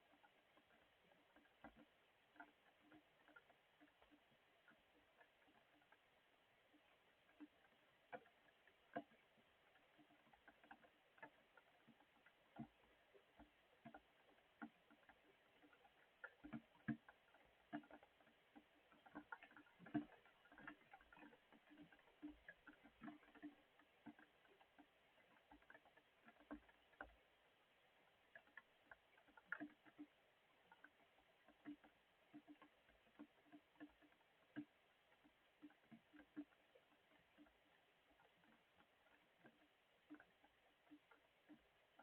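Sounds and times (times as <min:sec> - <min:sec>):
raindrops dripping and tapping: 0:00.0 - 0:42.0.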